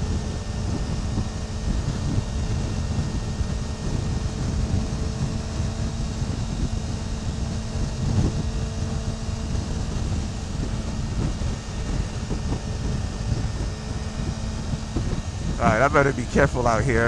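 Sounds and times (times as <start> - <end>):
motorcycle engine hum: 0.0 - 17.0
wind rushing over microphone: 0.0 - 17.0.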